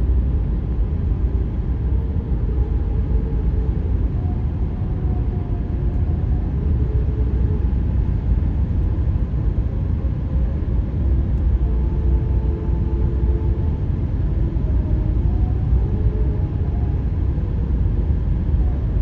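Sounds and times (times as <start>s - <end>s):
faint moaning tones: 0.9s - 19.0s.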